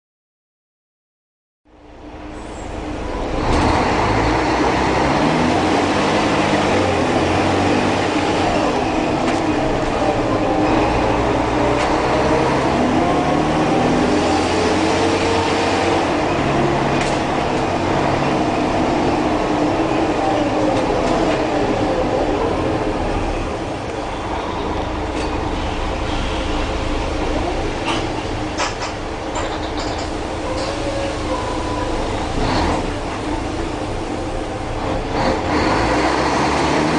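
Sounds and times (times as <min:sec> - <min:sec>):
bus diesel engine running: 0:01.7 - 0:36.9.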